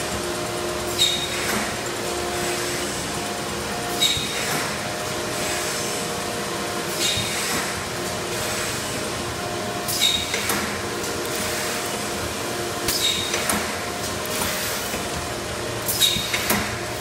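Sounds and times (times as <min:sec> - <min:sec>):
workshop machinery hum: 0:00.0 - 0:17.0.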